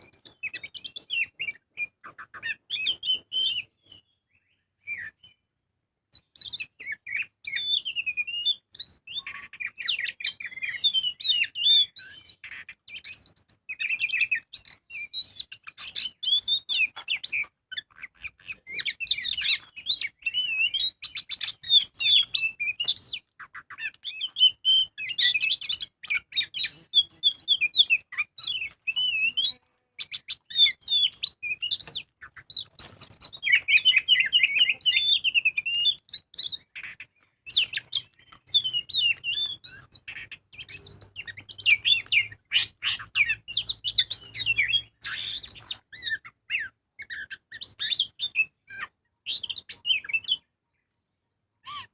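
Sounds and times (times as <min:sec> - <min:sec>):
magpie-robin singing: 0:00.0 - 0:51.9.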